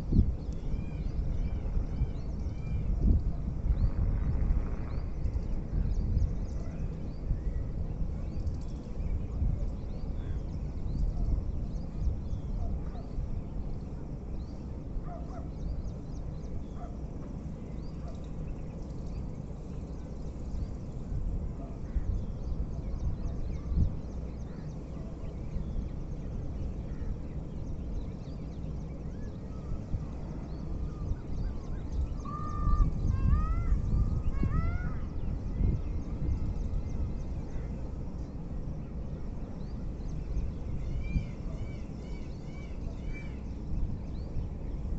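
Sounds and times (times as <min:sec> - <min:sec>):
birds chirping: 0:04.9 - 0:44.9.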